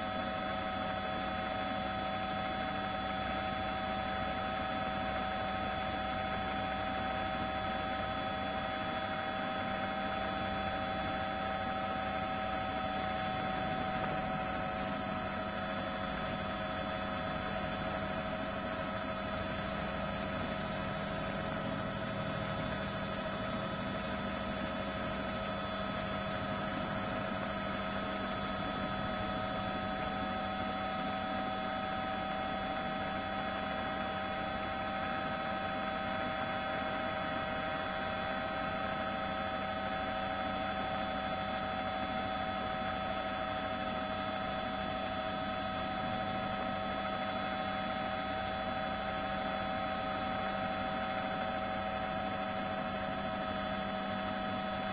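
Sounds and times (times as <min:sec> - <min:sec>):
helicopter hum in flight: 0:00.0 - 0:54.9.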